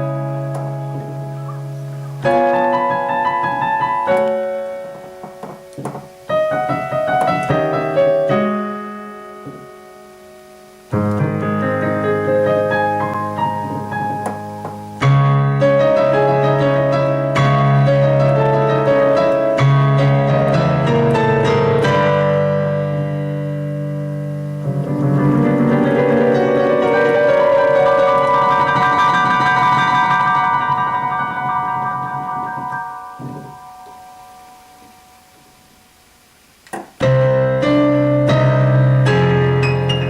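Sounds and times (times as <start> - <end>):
gentle piano music: 0.0 - 36.2, 36.9 - 40.0.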